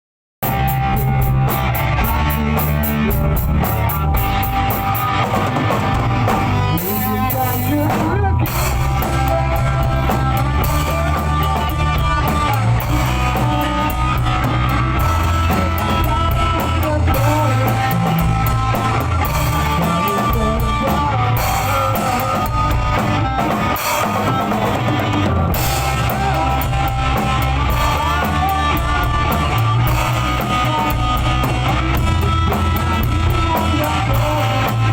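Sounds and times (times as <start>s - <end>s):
rock music with drums and guitars: 0.4s - 34.9s.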